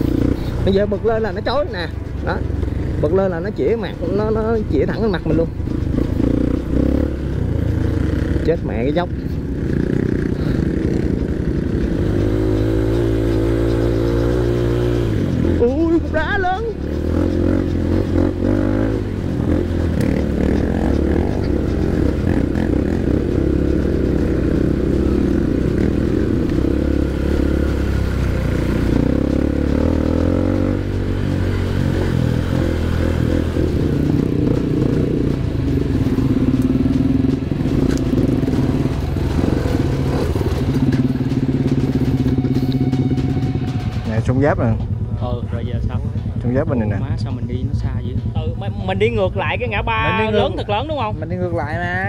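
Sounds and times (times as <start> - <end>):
dirt bike engine at low revs: 2.2 - 49.0.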